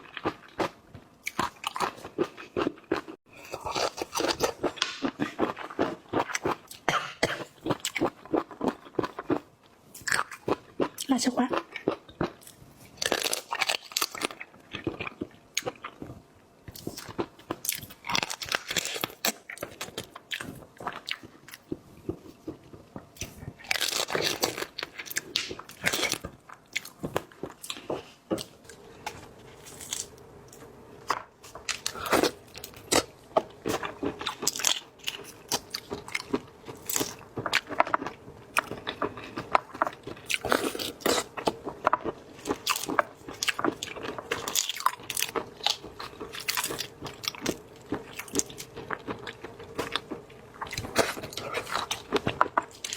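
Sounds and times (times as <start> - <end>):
person chewing with crunches: 0.0 - 52.9
faint steady hum: 3.3 - 52.9.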